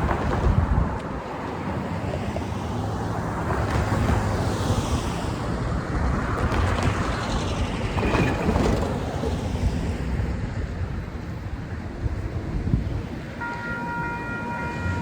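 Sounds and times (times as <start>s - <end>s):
wind buffeting microphone: 0.0s - 13.5s
train wheels rumbling on rail: 0.0s - 15.0s.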